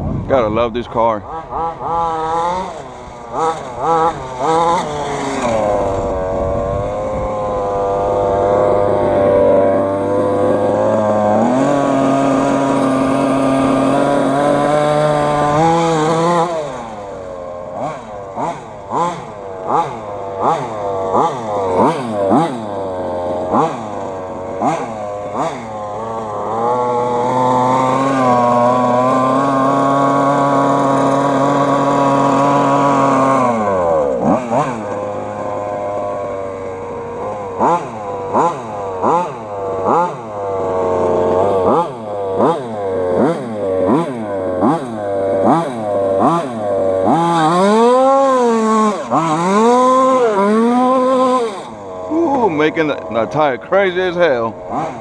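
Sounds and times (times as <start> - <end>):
rc car engine revving: 0.2 - 55.0.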